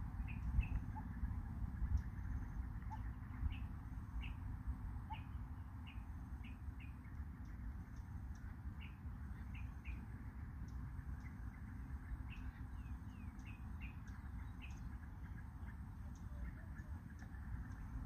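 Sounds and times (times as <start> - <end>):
bird chirping: 0.0 - 18.0
steady low rumble: 0.0 - 18.0.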